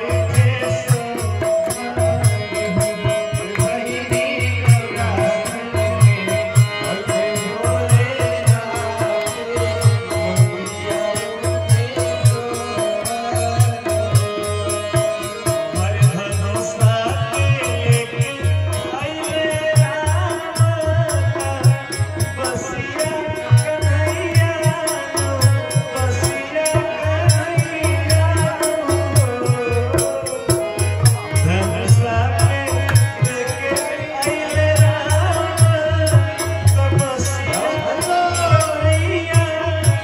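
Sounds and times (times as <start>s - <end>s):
harmonium: 0.0s - 40.0s
man singing: 0.0s - 40.0s.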